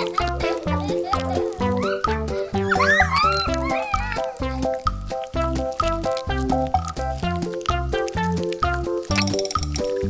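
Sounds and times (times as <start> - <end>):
bouncy background music: 0.0 - 10.0.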